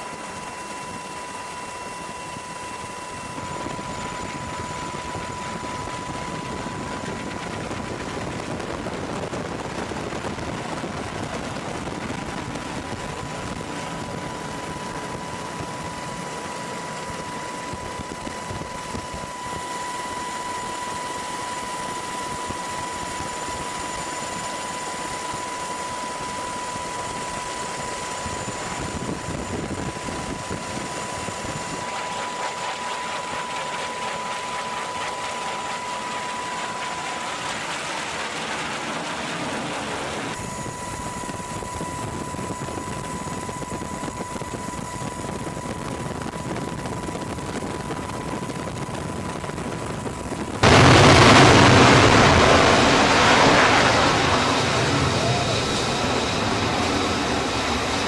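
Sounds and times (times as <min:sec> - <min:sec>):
jet engine whine: 0:00.0 - 0:58.0
jet roar at full power: 0:00.0 - 0:58.0.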